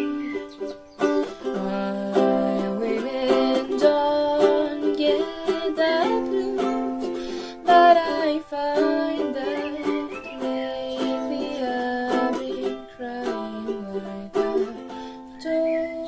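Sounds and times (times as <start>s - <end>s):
ukulele strumming chords: 0.0s - 16.0s.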